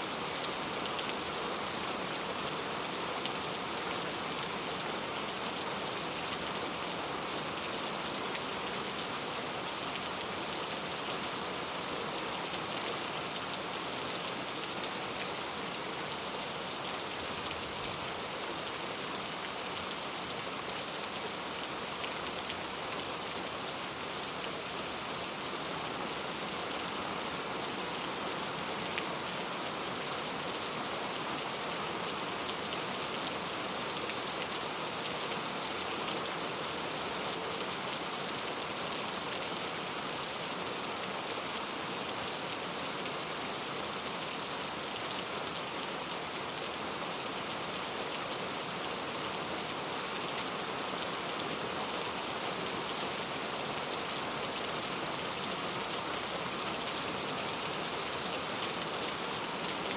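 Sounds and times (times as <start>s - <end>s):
rain falling on a road: 0.0s - 59.9s.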